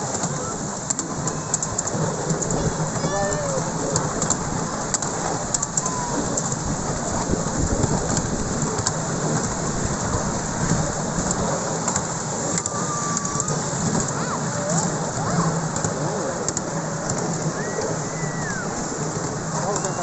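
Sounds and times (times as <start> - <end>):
train wheels rattling on rails: 0.0 - 20.0.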